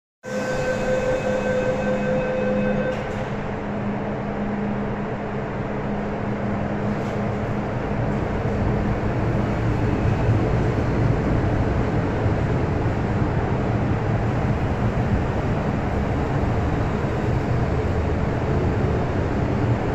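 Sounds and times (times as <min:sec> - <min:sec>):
train rushing rumble: 0:00.2 - 0:19.9.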